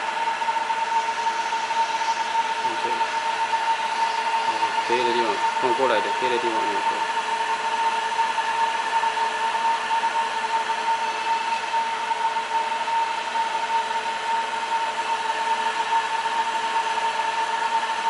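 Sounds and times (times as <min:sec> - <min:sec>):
electric motor whirring and whining: 0:00.0 - 0:18.0.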